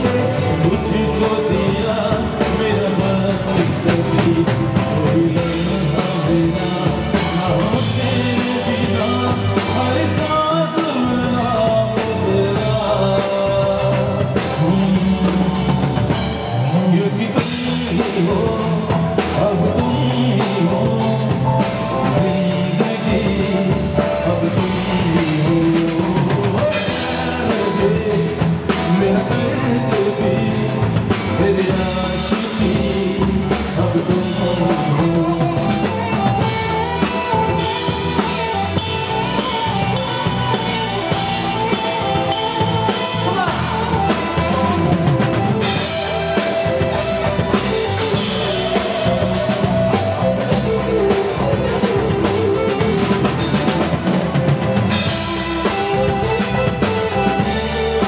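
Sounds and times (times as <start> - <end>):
drum kit beat: 0.0 - 58.0
keyboards: 0.0 - 58.0
person singing: 0.0 - 58.0.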